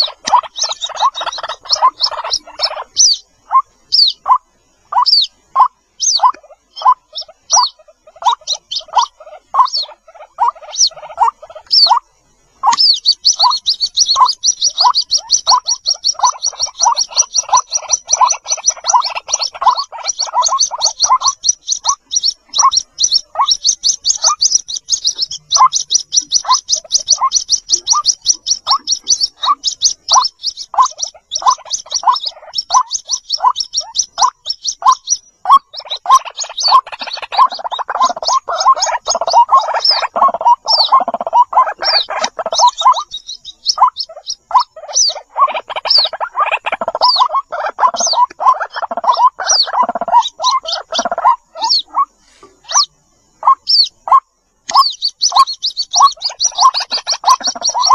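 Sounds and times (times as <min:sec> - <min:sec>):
chicks high peeps: 0:00.0 - 0:57.9
chicks lower chirps: 0:00.0 - 0:57.9.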